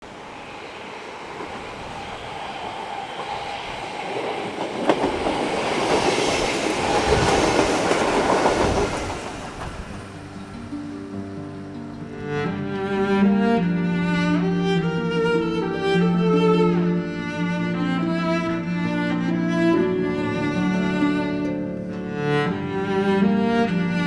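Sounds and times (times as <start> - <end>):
train passing on rails: 0.0 - 24.0.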